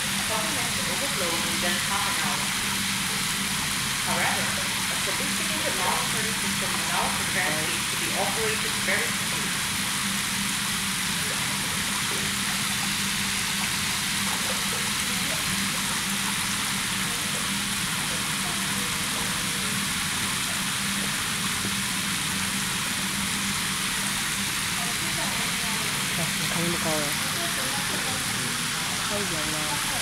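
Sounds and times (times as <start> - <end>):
water gushing and splashing: 0.0 - 30.0.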